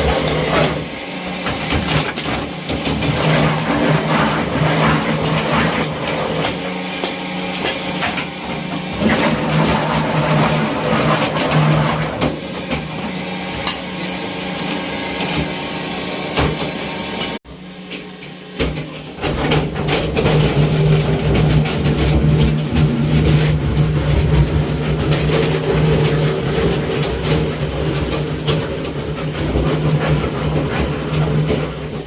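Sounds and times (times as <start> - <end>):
crusher motor humming: 0.0 - 32.0.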